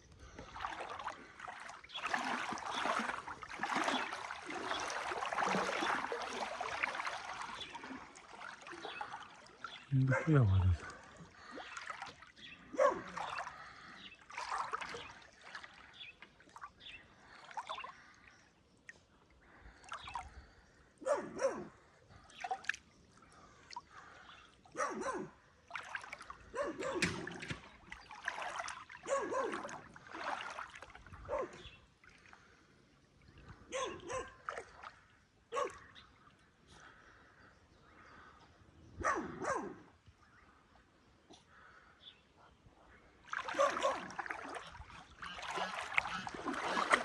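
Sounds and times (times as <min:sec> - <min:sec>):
water splashing and dribbling: 0:00.0 - 0:20.8, 0:21.5 - 0:37.0, 0:43.0 - 0:47.0.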